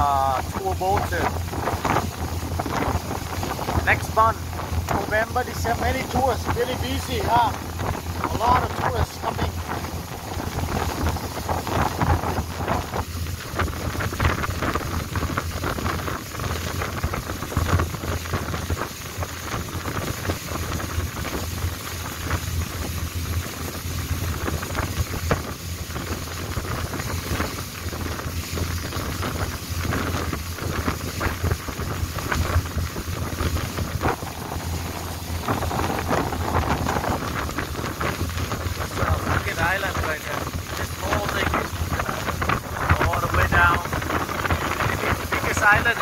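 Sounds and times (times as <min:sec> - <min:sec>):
boat engine droning: 0:00.0 - 0:46.0
wind buffeting microphone: 0:00.0 - 0:46.0.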